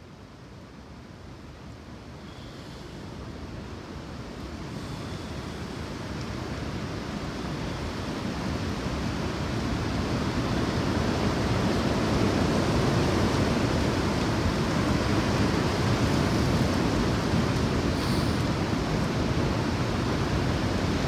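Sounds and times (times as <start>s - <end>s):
steady rushing noise: 1.9s - 21.0s.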